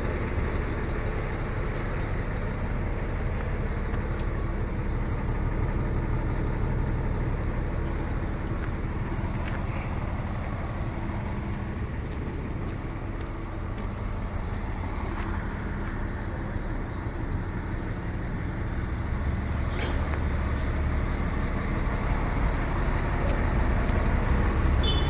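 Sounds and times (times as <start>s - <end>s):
diesel coach engine running: 0.0s - 25.0s.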